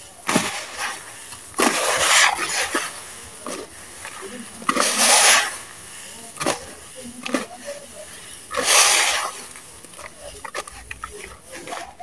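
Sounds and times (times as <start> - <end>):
damp sand crunching: 0.0 - 12.0
small crackles and clicks: 0.0 - 12.0.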